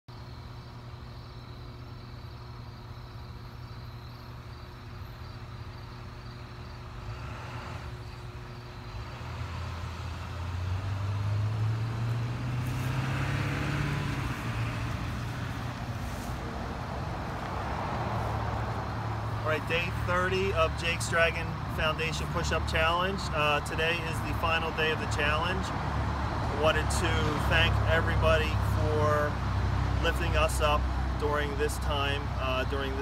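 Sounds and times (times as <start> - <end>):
engine humming: 0.1 - 33.0.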